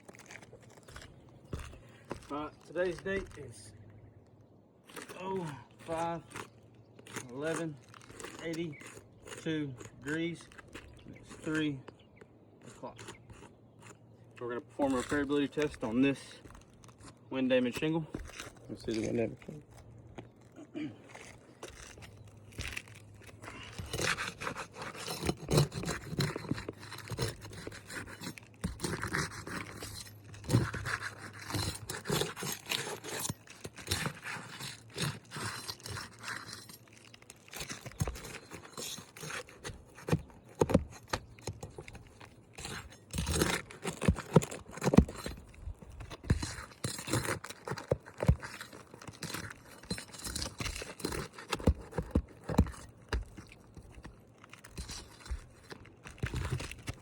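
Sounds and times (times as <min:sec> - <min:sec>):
scraping and crunching on shingles: 0:00.0 - 0:57.0.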